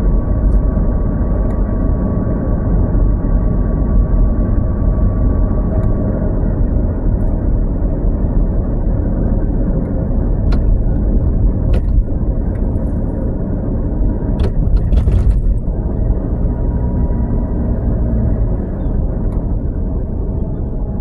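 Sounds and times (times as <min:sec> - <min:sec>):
vehicle rumble on road: 0:00.0 - 0:21.0.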